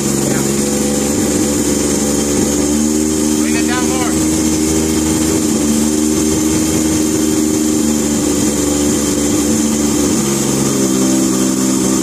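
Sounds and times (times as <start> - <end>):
rotary engine idling: 0.0 - 12.0.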